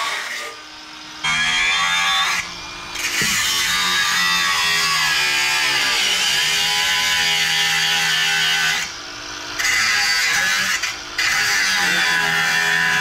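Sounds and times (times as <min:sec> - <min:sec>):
angle grinder cutting metal: 0:00.0 - 0:13.0.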